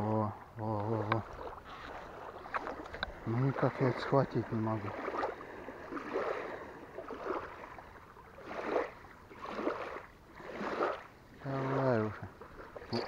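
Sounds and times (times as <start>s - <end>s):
small waves lapping on sand: 0.0s - 13.0s.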